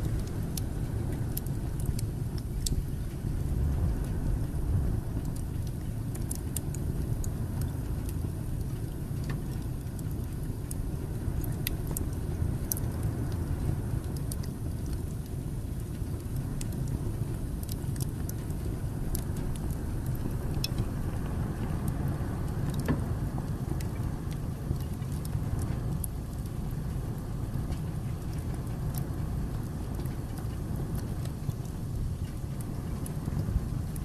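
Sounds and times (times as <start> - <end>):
burning logs crackling and popping: 0.0 - 34.0
fire flames rumbling: 0.0 - 34.0.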